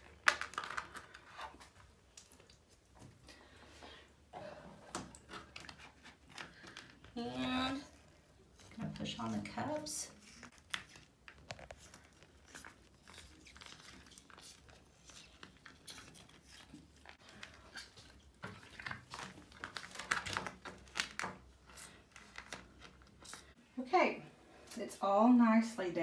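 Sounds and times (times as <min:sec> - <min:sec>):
suction cups clicking and crinkling: 0:00.0 - 0:23.6.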